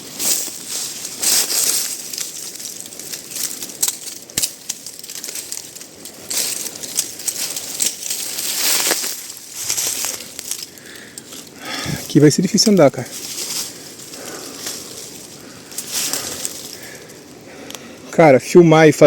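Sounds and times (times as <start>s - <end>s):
dry twigs and leaves crackling: 0.0s - 18.2s.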